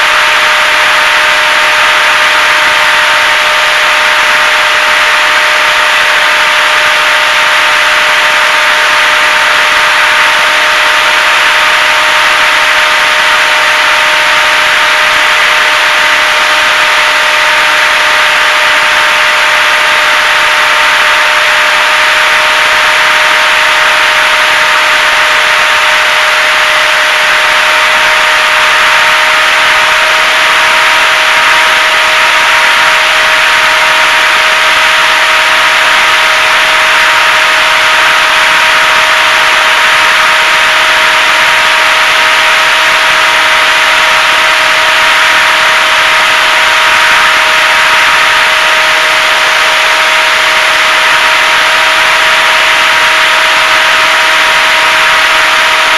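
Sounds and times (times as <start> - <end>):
electric motor and propeller whine: 0.0 - 55.9.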